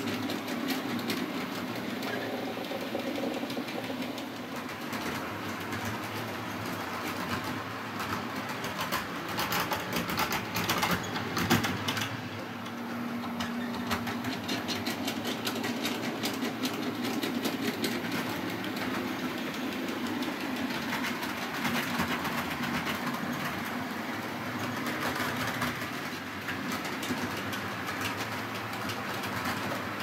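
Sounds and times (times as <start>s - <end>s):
wheels clicking over rail joints: 0.0s - 30.0s.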